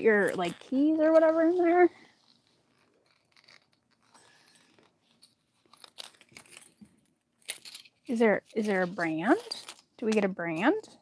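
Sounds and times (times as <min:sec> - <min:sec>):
wallet clicks and rustles: 0:00.1 - 0:10.8.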